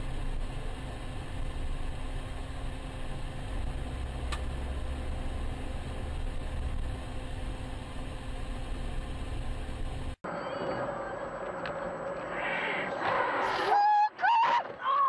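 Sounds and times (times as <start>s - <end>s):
car engine rumble: 0.0s - 14.9s
road noise: 0.0s - 15.0s.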